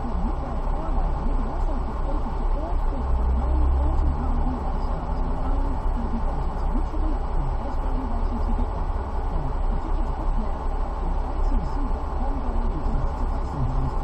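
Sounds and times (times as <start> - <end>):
car road and engine rumble: 0.0 - 14.0
faint voices: 0.0 - 14.0.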